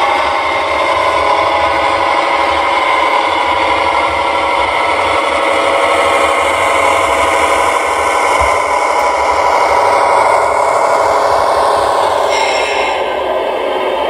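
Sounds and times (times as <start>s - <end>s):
model locomotive engine sound: 0.0s - 14.0s.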